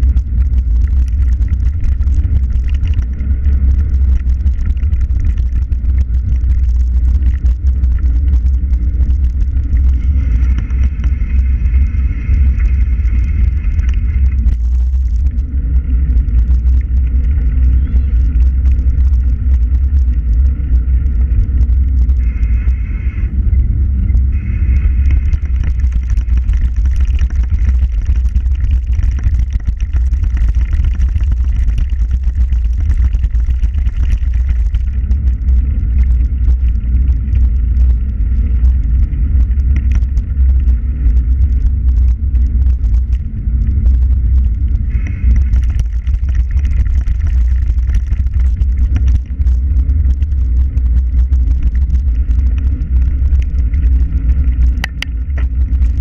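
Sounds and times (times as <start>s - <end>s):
tyre and road noise: 0.0s - 56.0s
wind buffeting microphone: 0.0s - 56.0s.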